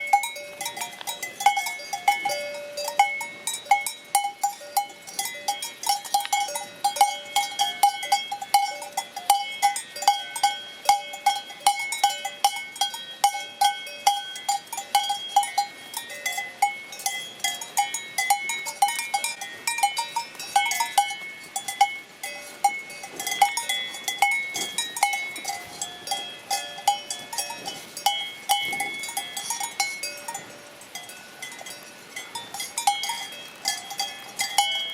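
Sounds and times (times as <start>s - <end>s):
cowbells clanking: 0.0s - 34.9s.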